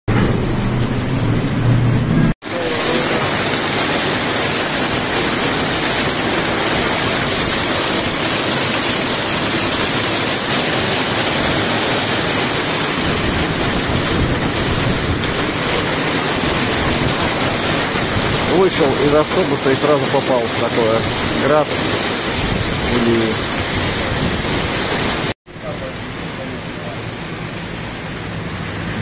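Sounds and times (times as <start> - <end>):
heavy rain on pavement: 0.2 - 29.0.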